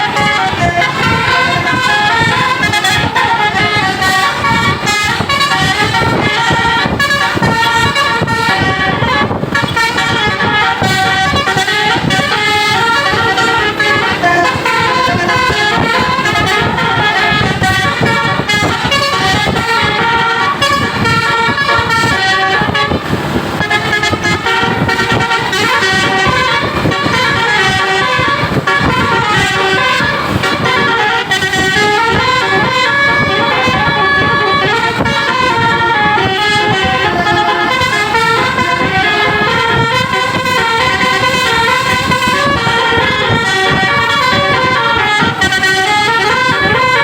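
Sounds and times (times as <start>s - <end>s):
musical air horns melody: 0.0s - 47.0s.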